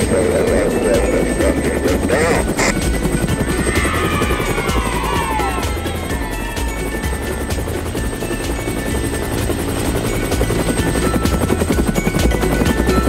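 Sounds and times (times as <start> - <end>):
background music with bass: 0.0 - 13.0.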